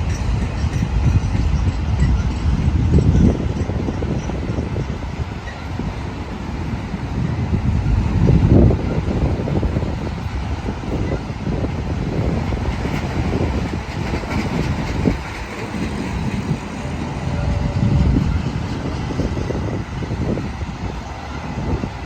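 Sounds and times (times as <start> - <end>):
train rumbling along track: 0.0 - 22.0.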